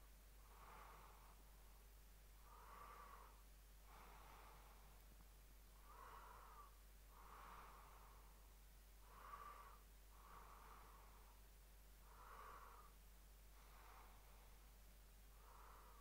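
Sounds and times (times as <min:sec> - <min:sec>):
low steady hum: 0:00.0 - 0:16.0
slow breathing: 0:00.0 - 0:16.0.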